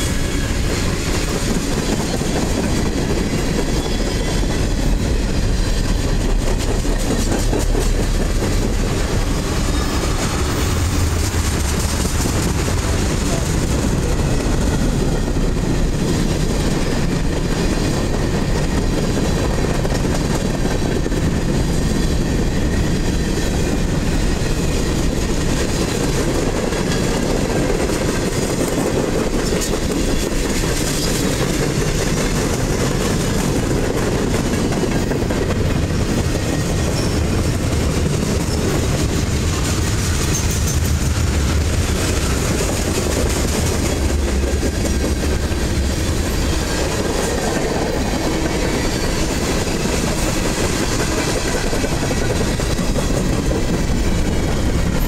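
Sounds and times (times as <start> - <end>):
clickety-clack over rail joints: 0.0 - 55.0
steel wheels rumbling on rails: 0.0 - 55.0.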